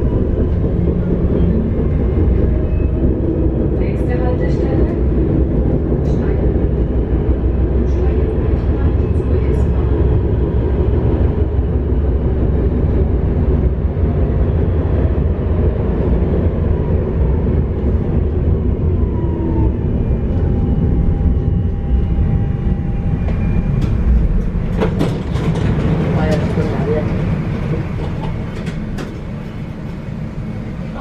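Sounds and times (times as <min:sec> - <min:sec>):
tram wheels rumbling on rail: 0:00.0 - 0:31.0.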